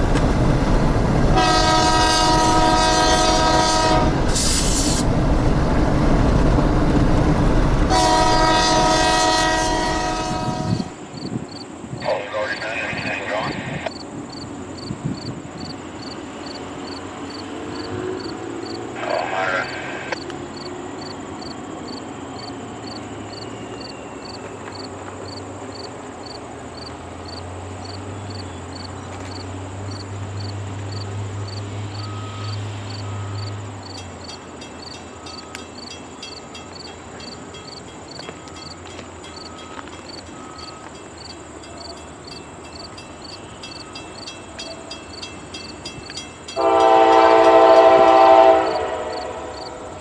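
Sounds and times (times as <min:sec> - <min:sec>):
insects chirping: 0:00.0 - 0:50.0.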